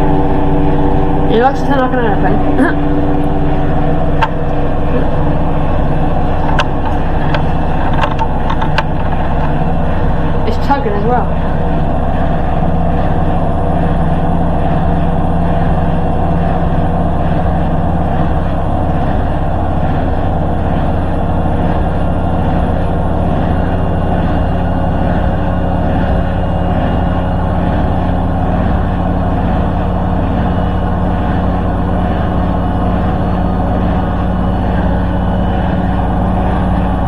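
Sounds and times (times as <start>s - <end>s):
washing machine spinning: 0.0s - 37.0s.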